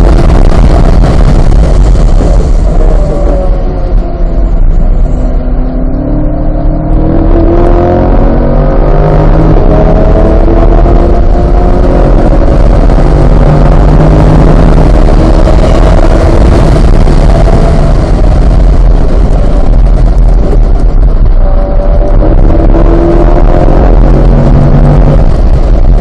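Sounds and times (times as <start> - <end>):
car engine accelerating hard: 0.0 - 26.0
wind and road noise: 0.0 - 26.0.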